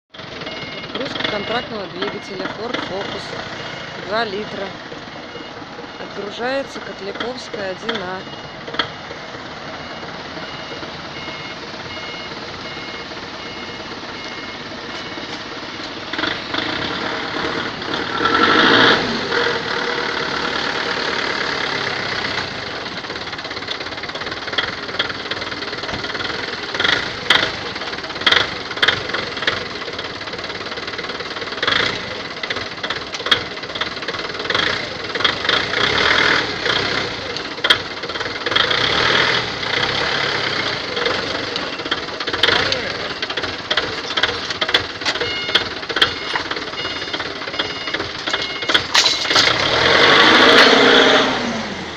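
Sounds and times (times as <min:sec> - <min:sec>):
car engine running: 0:00.1 - 0:51.9.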